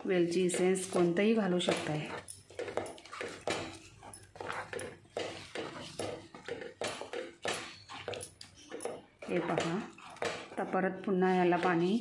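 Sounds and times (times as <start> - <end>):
wooden spatula scraping a pan: 0.0 - 12.0.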